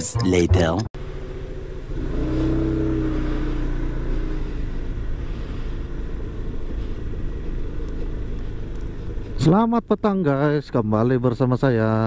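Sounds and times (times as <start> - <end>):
scooter engine rumbling: 0.0 - 11.3.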